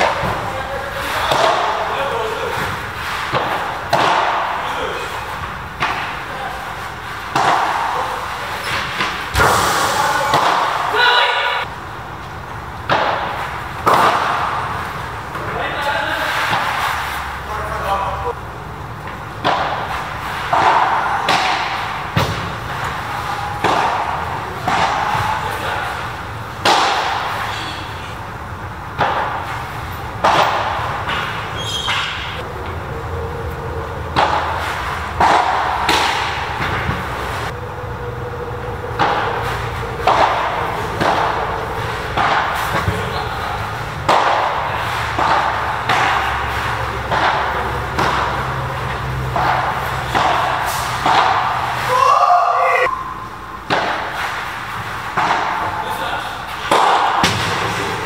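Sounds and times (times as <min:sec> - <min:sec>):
ball struck with padel rackets: 0:00.0 - 0:15.5, 0:18.8 - 0:58.0.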